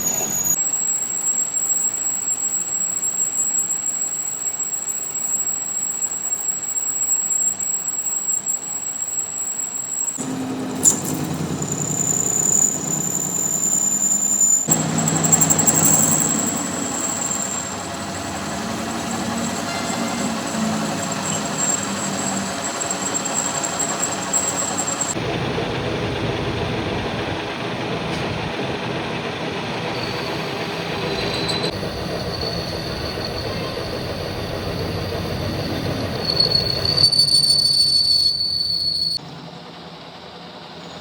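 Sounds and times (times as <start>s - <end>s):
machinery high whine: 0.0s - 41.0s.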